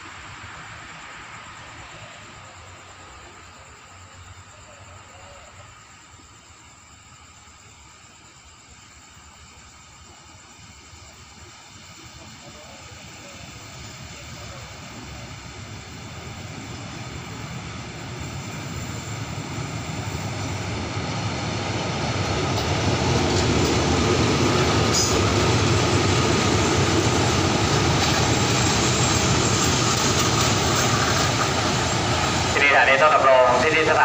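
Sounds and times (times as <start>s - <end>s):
diesel train passing: 0.0s - 34.0s.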